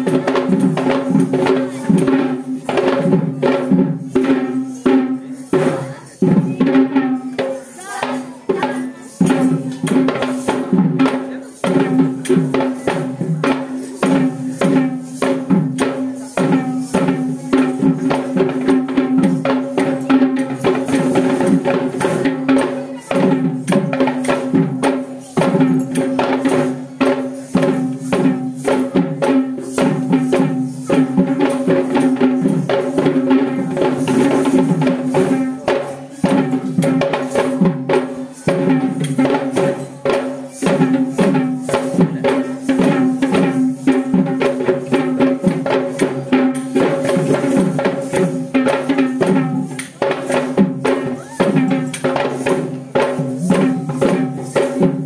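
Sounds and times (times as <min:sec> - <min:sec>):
rapid drumming: 0:00.0 - 0:55.0.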